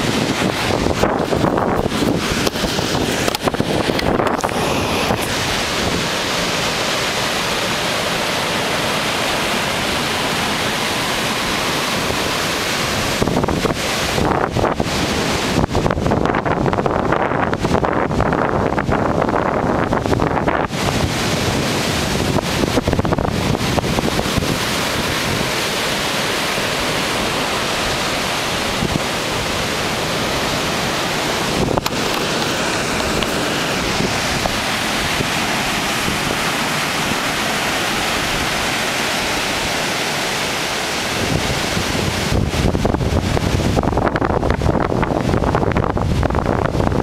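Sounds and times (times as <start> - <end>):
heavy surf: 0.0 - 47.0
wind blowing on microphone: 0.0 - 47.0.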